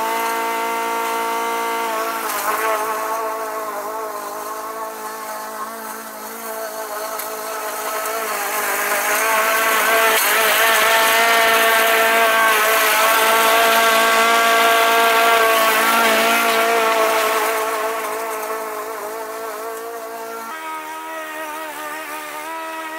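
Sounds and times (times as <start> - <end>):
lawn mower engine running: 0.0 - 22.9.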